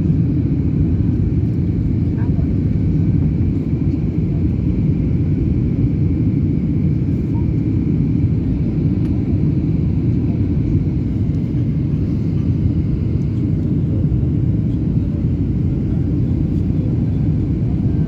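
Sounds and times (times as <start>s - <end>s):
airliner low rumble: 0.0s - 18.0s.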